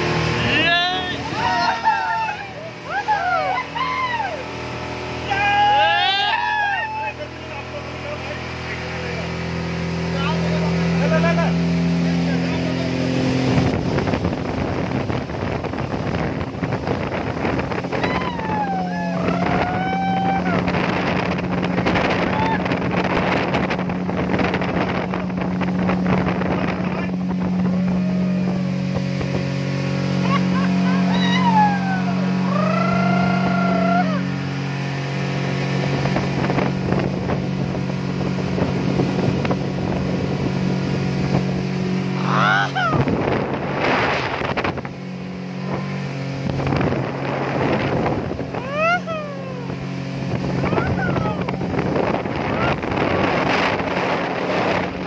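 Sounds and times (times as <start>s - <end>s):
motorboat engine hum: 0.0s - 55.0s
rushing wind and water spray: 0.0s - 55.0s.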